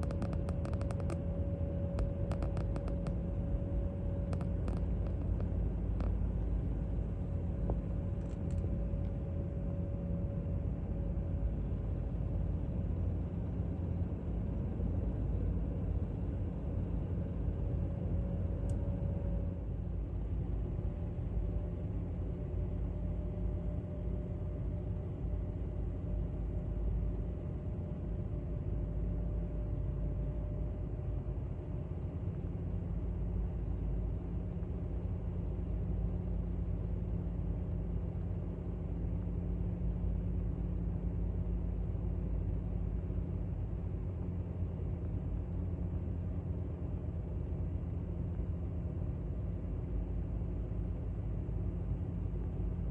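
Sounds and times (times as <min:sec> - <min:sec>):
distant aircraft engine rumble: 0:00.0 - 0:52.9
faint hum: 0:00.0 - 0:52.9.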